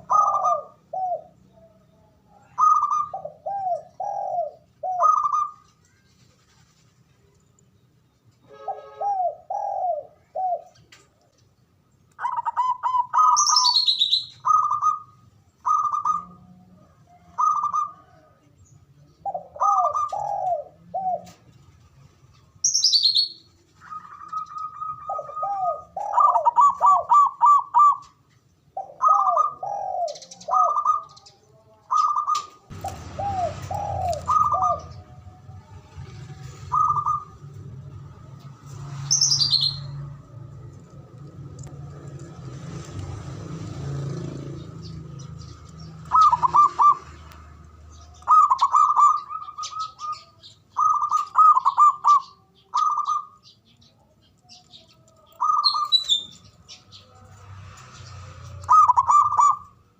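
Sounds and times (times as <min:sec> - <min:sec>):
doves cooing: 0:00.0 - 0:07.0, 0:08.5 - 0:11.3, 0:12.1 - 0:59.9.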